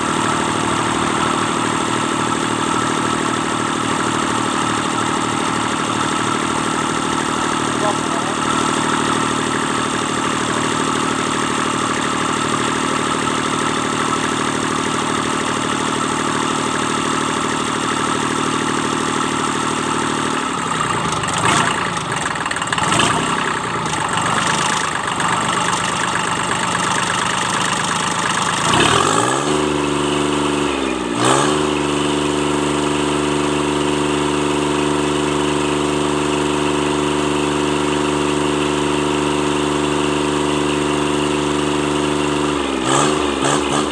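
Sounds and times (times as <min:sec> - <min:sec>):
diesel engine idling and revving: 0:00.0 - 0:43.9.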